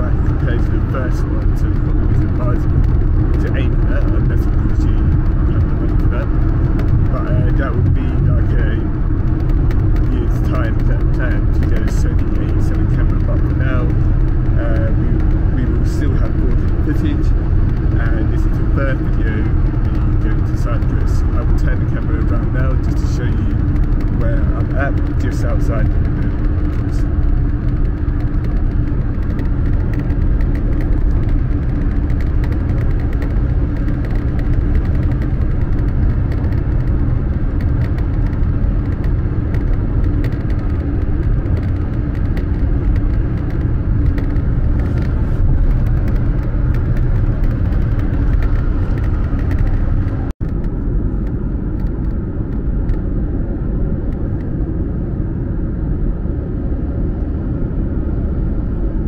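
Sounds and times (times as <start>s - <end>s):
car road noise rumble: 0.0s - 59.0s
low hum: 0.0s - 59.0s.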